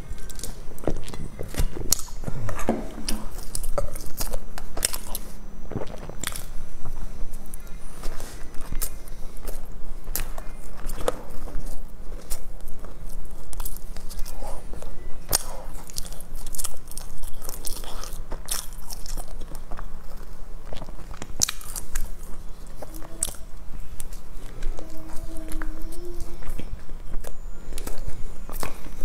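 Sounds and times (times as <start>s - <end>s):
bread crust crackling: 0.0s - 29.0s
steady hum: 0.0s - 29.0s
wet chewing: 0.0s - 29.0s.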